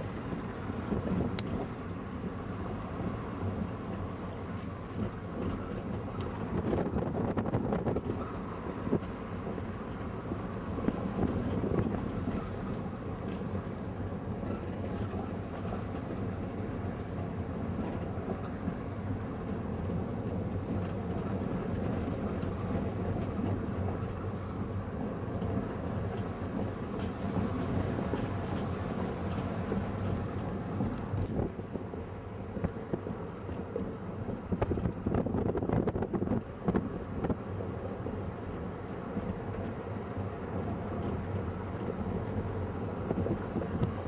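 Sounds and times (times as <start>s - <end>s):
vehicle engine and road noise: 0.0s - 44.0s.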